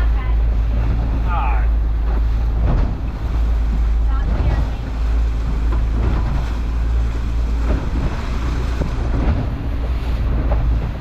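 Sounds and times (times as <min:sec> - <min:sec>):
boat engine: 0:00.0 - 0:11.0
hull knocking on water: 0:00.0 - 0:11.0
wind buffeting microphone: 0:00.0 - 0:11.0.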